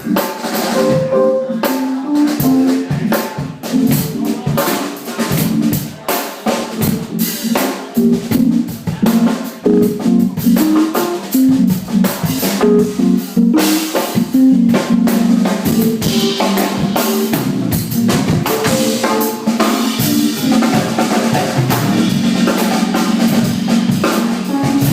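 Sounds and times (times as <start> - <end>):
drum kit playing a groove: 0.0 - 24.9
pitched instrument notes: 0.7 - 5.7, 6.9 - 24.9.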